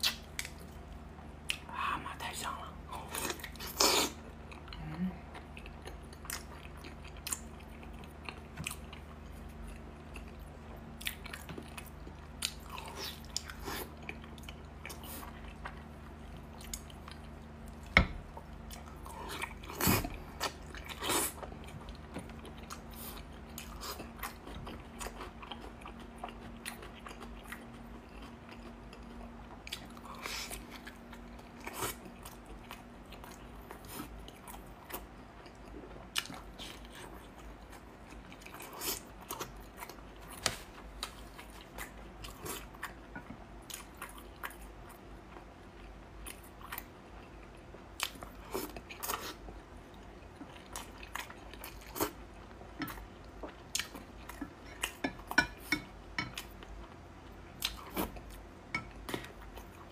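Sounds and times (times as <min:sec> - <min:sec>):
person chewing meat: 0:02.5 - 0:59.9.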